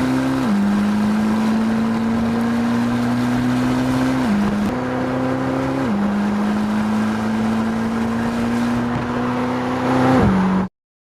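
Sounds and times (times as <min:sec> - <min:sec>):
car engine at speed: 0:00.0 - 0:10.7.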